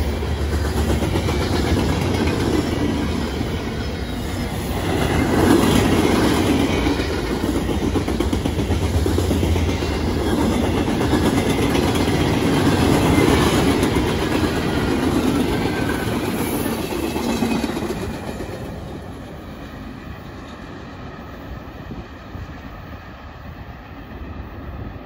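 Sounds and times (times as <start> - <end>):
train wheels clattering on track: 0.0 - 25.0.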